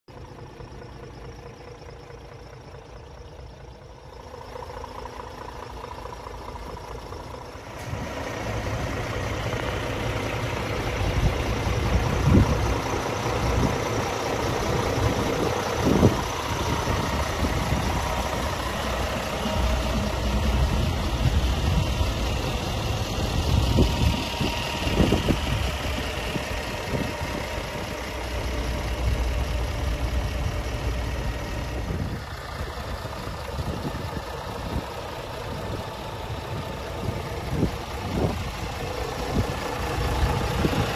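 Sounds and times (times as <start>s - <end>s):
diesel truck engine idling: 0.1s - 40.9s.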